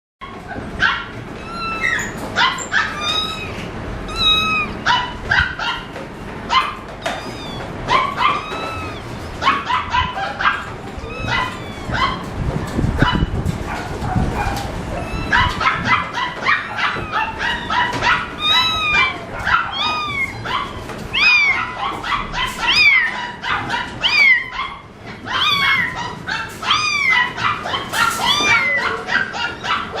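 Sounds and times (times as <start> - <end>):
low room hum: 0.2 - 30.0
young animals crying: 1.3 - 13.4, 14.3 - 30.0.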